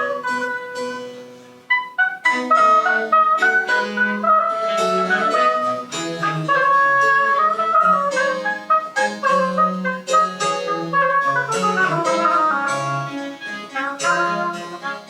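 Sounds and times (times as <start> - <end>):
wind instruments playing melodies: 0.0 - 15.0
held bass line: 2.2 - 15.0
plucked strings: 2.3 - 15.0.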